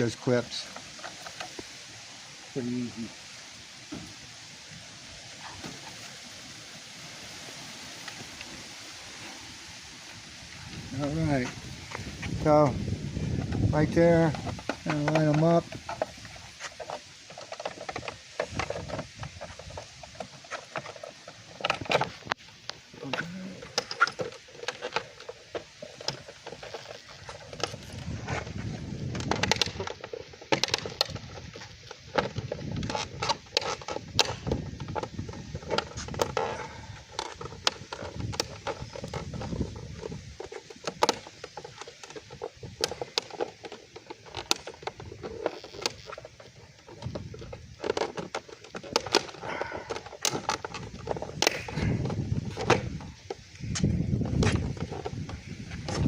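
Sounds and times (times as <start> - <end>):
plastic parts clicking and scraping: 10.6 - 56.0.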